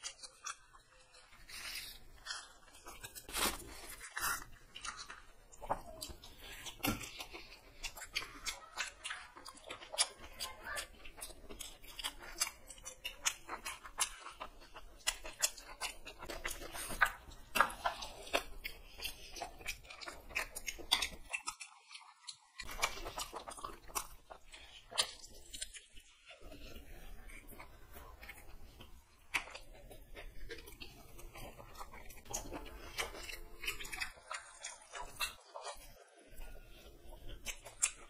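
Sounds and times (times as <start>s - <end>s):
people chewing and crunching food: 0.0s - 38.0s.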